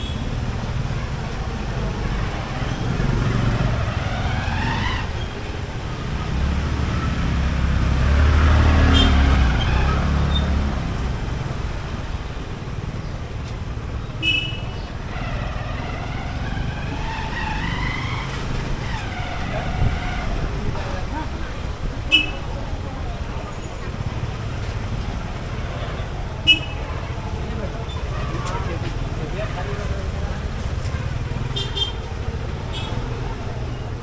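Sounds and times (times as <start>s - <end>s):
motorcycle engine rumble: 0.0s - 34.0s
road traffic noise: 0.0s - 34.0s.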